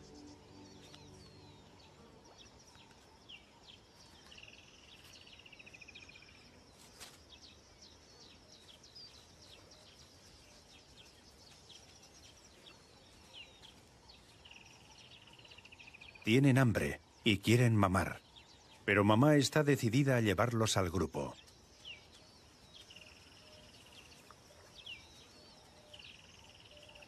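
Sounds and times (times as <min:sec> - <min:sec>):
birds chirping and calling: 0:00.0 - 0:27.0.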